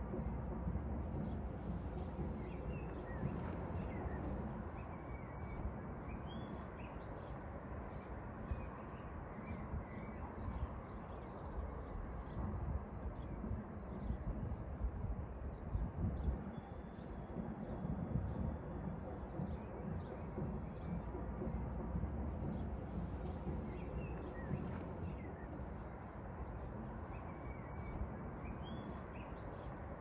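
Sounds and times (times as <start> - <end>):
steady low rumble: 0.0 - 6.8, 7.4 - 30.0
small birds chirping: 1.0 - 12.5, 15.4 - 30.0.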